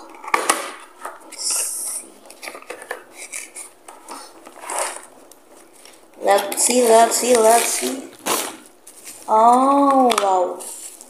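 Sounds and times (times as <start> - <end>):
cardboard and paper rustling: 0.0 - 11.0.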